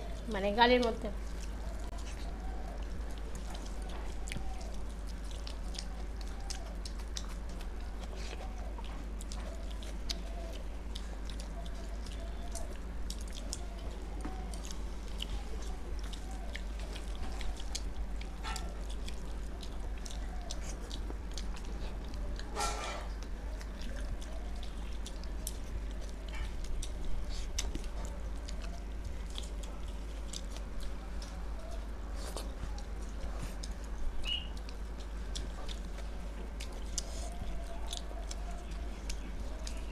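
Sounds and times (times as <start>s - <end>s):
chewing and lip smacks: 0.0s - 39.9s.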